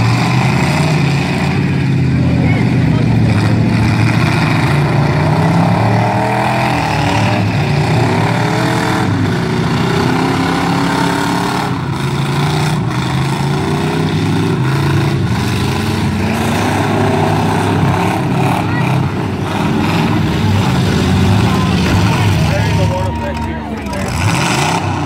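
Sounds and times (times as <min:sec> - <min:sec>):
van engines revving: 0:00.0 - 0:25.0.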